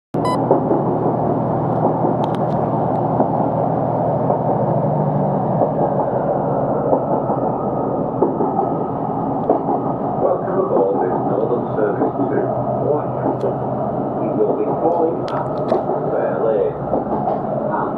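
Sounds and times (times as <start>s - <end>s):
train rumbling: 0.2s - 17.9s.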